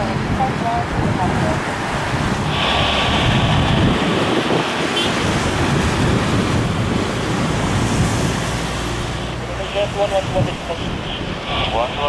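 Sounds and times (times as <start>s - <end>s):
jet engines running: 0.0s - 12.0s
wind buffeting microphone: 0.0s - 12.0s.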